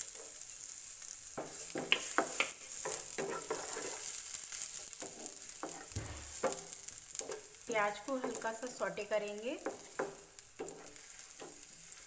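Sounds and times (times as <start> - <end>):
onion sizzling in oil: 0.0 - 12.0
spatula scraping pan: 1.4 - 8.7, 9.6 - 12.0.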